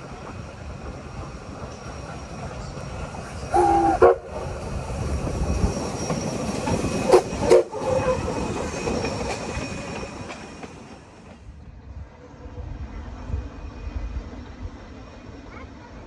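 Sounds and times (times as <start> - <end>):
steam locomotive running past: 0.0 - 16.0.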